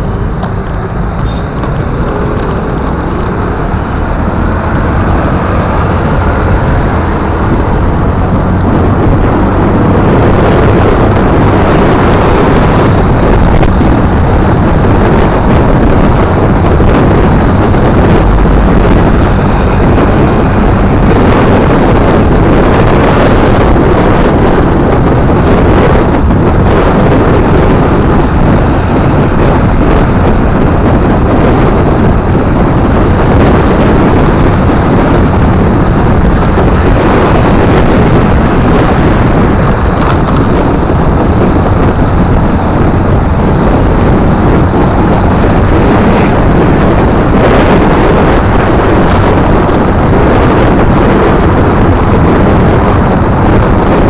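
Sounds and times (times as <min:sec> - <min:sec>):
motorcycle engine: 0:00.0 - 0:54.0
road noise: 0:00.0 - 0:54.0
wind buffeting microphone: 0:00.0 - 0:54.0.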